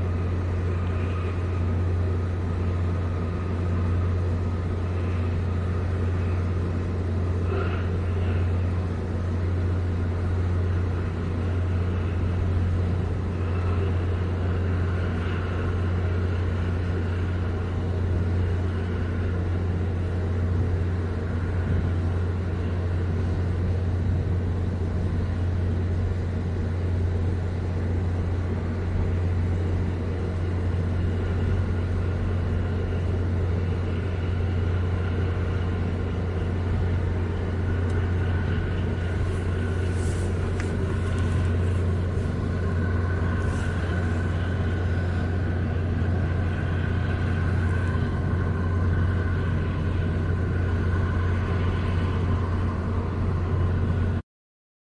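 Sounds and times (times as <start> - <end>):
low engine drone: 0.0 - 54.2.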